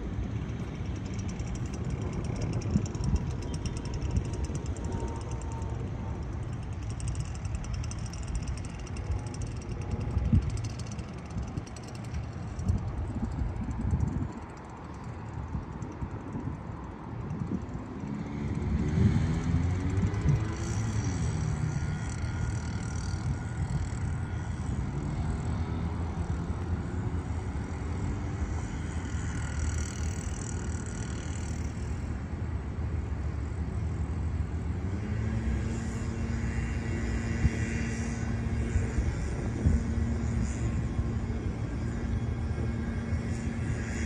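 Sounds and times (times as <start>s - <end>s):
engine hum: 0.0s - 44.0s
passing traffic engines: 0.0s - 44.0s.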